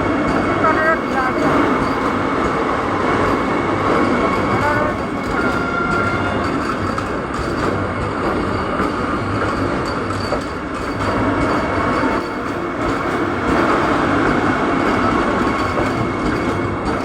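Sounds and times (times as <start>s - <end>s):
train wheels rumbling on rail: 0.0s - 17.0s
thin steady squeal: 0.3s - 17.0s.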